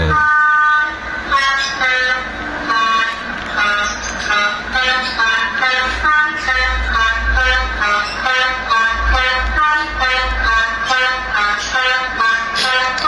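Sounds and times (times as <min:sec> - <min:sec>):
musical bus horn tune: 0:00.0 - 0:13.0.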